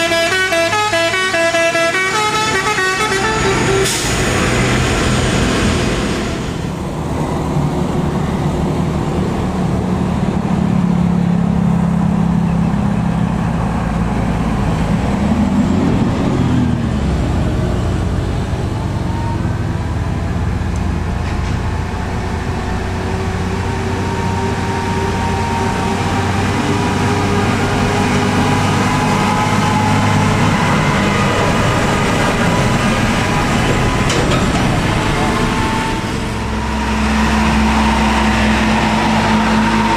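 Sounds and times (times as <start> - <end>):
diesel truck engines under load: 0.0 - 39.9.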